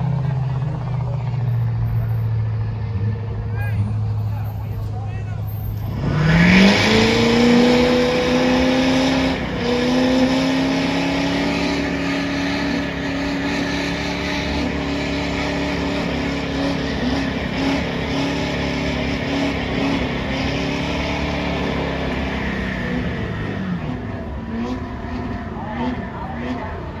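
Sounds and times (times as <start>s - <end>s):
truck engine revving: 0.0s - 27.0s
spinning tires hissing: 0.4s - 27.0s.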